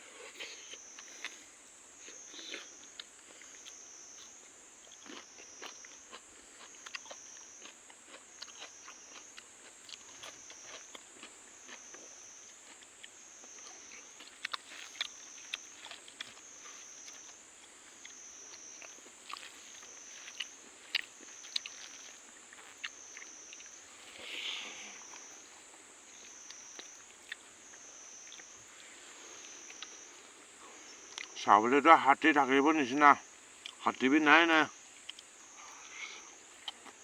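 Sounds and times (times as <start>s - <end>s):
chewing and crunching food: 0.0s - 31.6s, 33.0s - 37.0s
high insect chorus: 0.0s - 37.0s.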